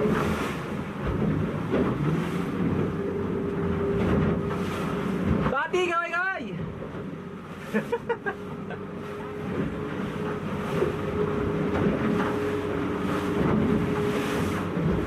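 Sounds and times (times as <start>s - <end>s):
boat engine running: 0.0s - 15.0s
water splashing against hull: 0.0s - 15.0s.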